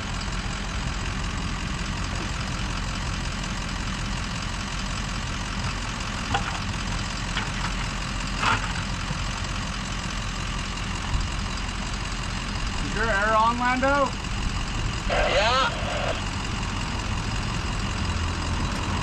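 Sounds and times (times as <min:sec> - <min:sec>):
heavy engine idling: 0:00.0 - 0:19.0.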